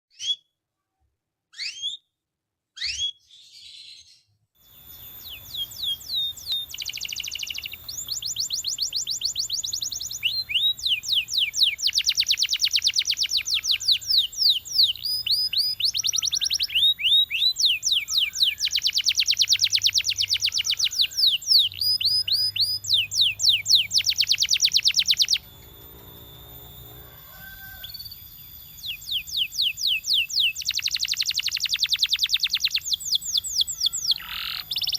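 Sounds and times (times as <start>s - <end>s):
canary singing trills: 0.1s - 0.5s, 1.5s - 2.1s, 2.8s - 34.9s.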